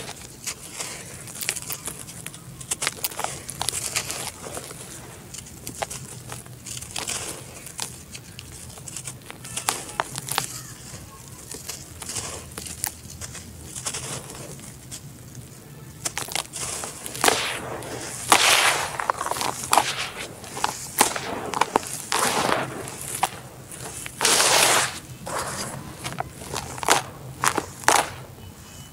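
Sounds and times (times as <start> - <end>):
dirt chunks crunching by hand: 0.0 - 28.6
powdery dirt falling: 0.0 - 28.6.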